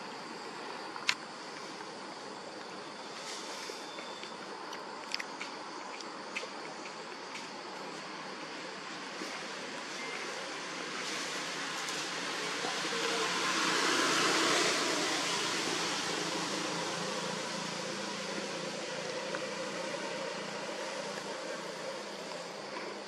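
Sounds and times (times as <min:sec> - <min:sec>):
rushing outdoor background noise: 0:00.0 - 0:23.0.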